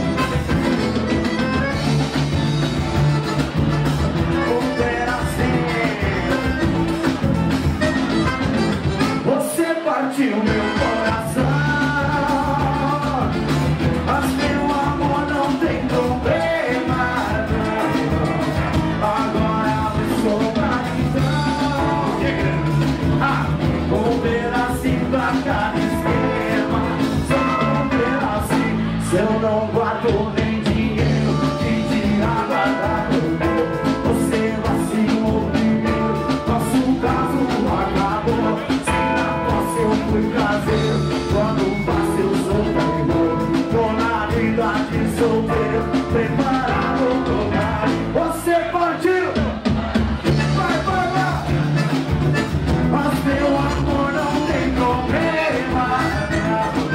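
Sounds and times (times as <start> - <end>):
live band playing: 0.0 - 56.9
man singing: 0.0 - 56.9.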